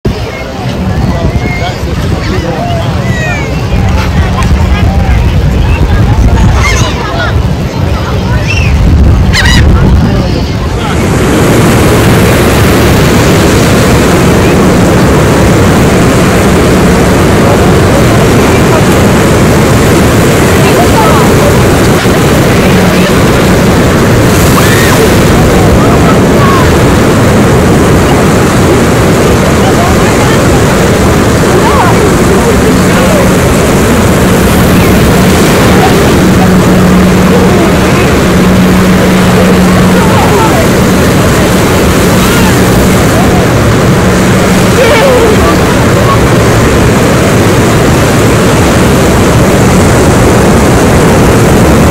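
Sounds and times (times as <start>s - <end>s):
faint voices: 0.0s - 51.9s
low engine-like drone: 0.0s - 51.9s
wind on microphone: 0.0s - 51.9s
ocean surf breaking: 0.1s - 51.9s.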